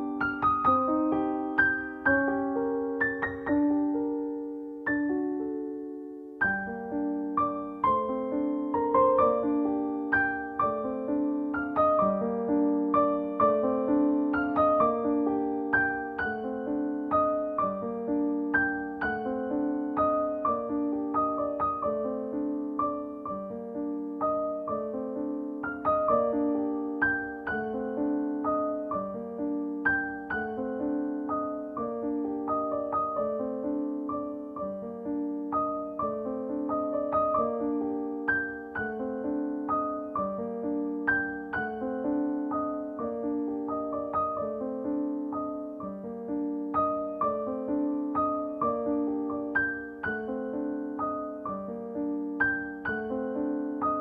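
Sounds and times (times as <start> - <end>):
gentle piano melody: 0.0 - 54.0.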